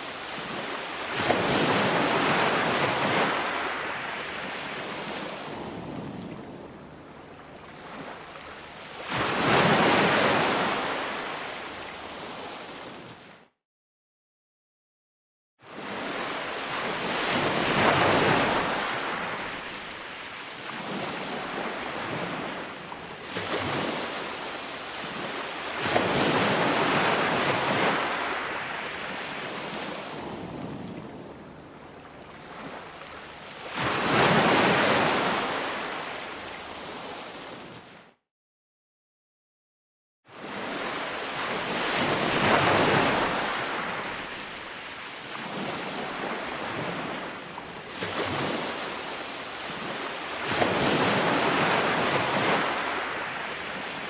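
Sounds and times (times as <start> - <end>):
ocean waves breaking: 0.0 - 13.3, 15.7 - 38.0, 40.4 - 54.0.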